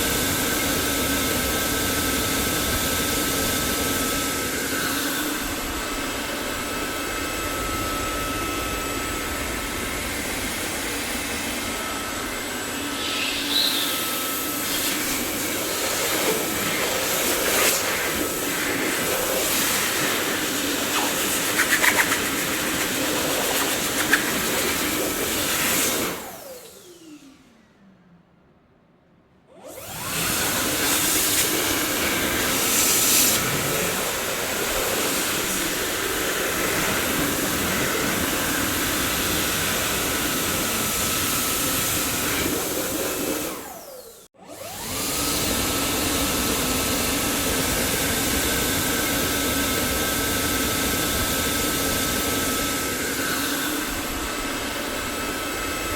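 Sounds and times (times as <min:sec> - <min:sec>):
vacuum cleaner motor whining: 0:00.0 - 0:27.8, 0:29.5 - 0:55.9.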